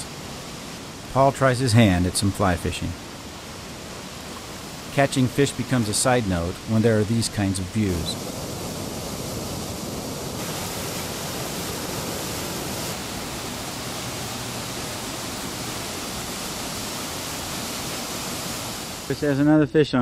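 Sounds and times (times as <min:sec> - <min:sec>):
waterfall rushing over rocks: 0:00.0 - 0:19.4.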